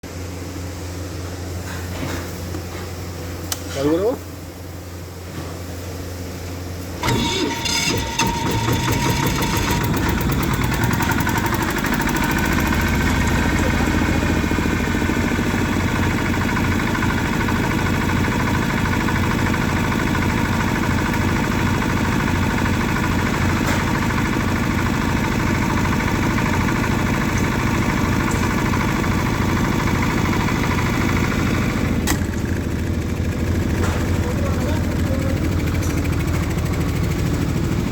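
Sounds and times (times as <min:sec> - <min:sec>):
diesel generator starting and running: 0:00.0 - 0:37.9.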